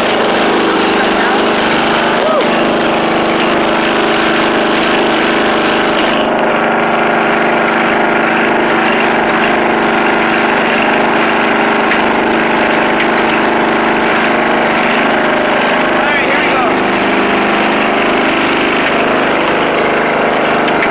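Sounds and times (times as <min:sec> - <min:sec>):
riding lawn mower engine: 0:00.0 - 0:20.9.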